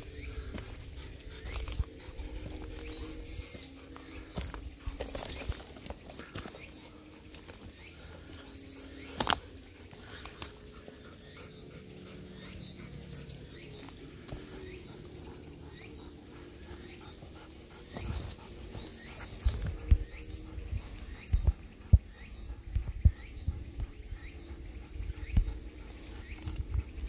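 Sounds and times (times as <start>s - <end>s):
dog breathing and moving: 0.0s - 27.0s.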